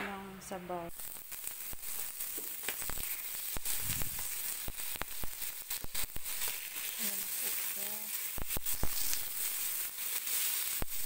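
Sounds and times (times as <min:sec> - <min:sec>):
livers sizzling in hot oil: 0:00.5 - 0:11.0
oil popping and crackling: 0:00.9 - 0:11.0.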